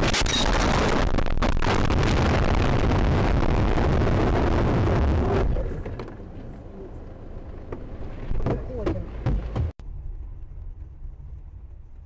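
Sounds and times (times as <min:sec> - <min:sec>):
vehicle and wind noise rumble: 0:00.0 - 0:12.0.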